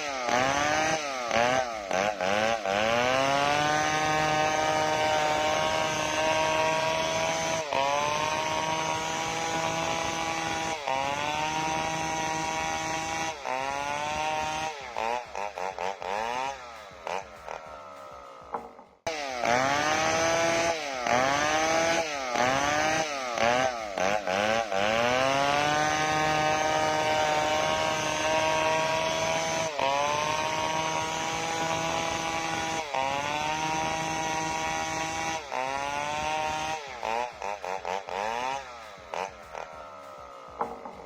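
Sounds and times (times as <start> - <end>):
chainsaw sawing wood: 0.0 - 41.0.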